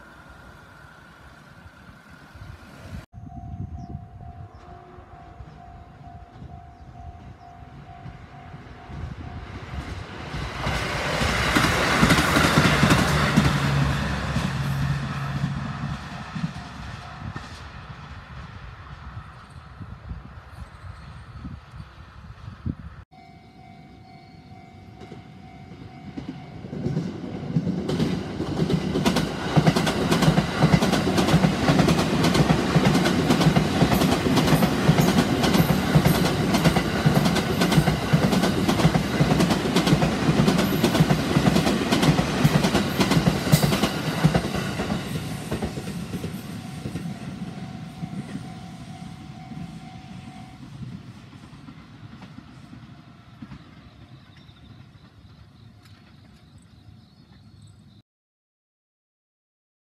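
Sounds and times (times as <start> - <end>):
train passing at speed: 0.0 - 57.8.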